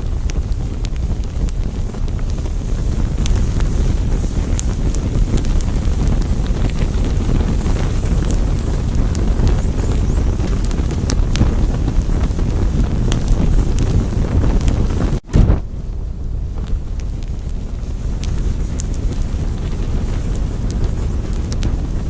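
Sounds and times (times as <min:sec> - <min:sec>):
fire burning with crackles: 0:00.0 - 0:22.0.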